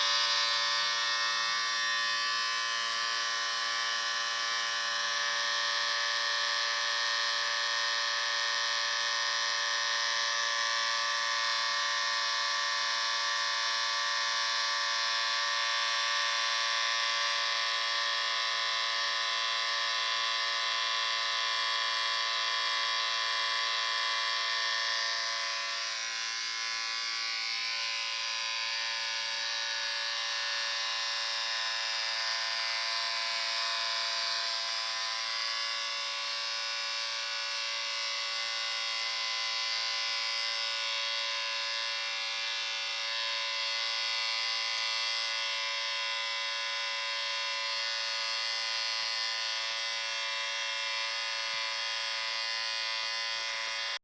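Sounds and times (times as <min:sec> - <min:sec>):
electric shaver buzzing: 0:00.0 - 0:54.0.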